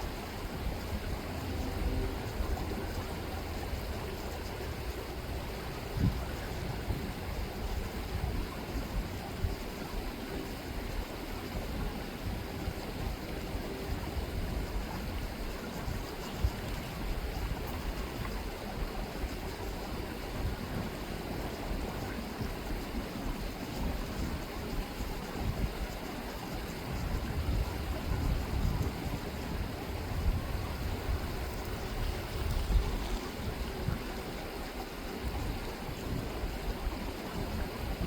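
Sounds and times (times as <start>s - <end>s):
river water flowing: 0.0s - 38.0s.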